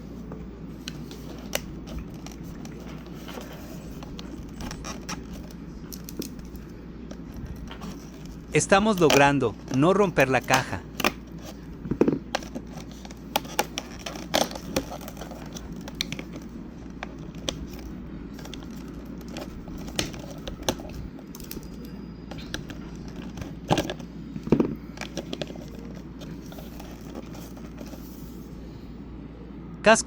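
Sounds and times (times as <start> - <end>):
packaging crinkling: 0.9 - 28.0.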